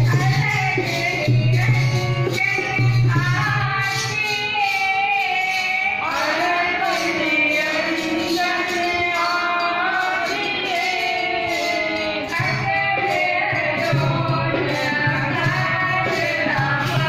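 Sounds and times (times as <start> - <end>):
women singing devotional song: 0.0 - 17.0.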